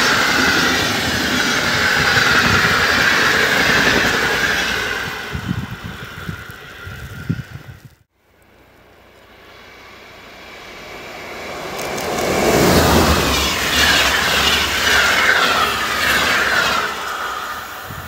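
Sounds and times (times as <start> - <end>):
train passing at speed: 0.0 - 18.0
wheels churning snow: 0.0 - 18.0.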